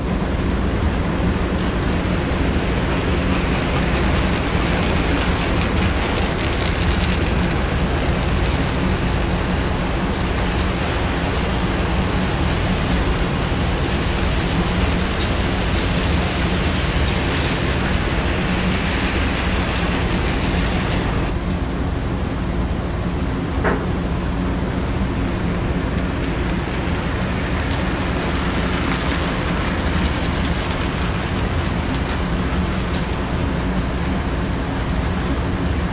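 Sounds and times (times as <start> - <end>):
model train wheels rumbling: 0.0 - 21.6, 23.6 - 35.9.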